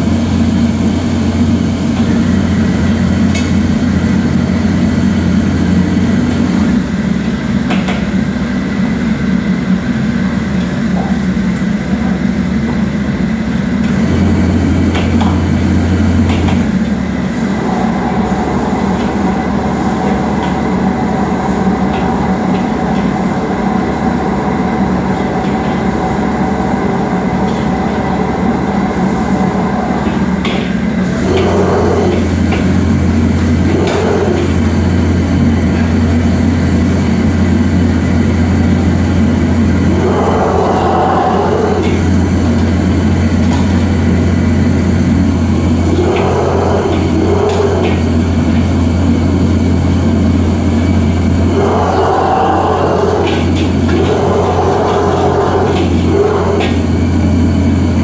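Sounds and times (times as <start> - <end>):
gas burner and extraction hood rumble: 0.0 - 58.0.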